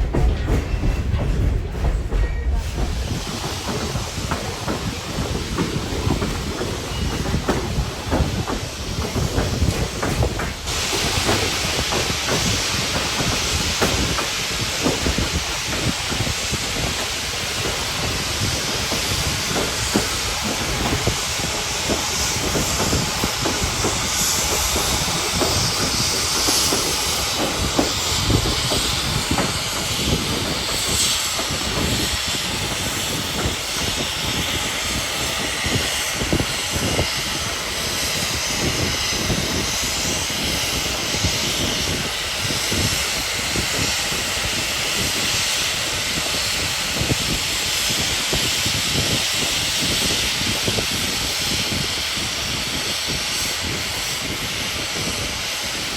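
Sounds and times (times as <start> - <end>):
locomotive hissing steam: 0.0 - 55.9
train rumbling and rattling: 0.0 - 55.9.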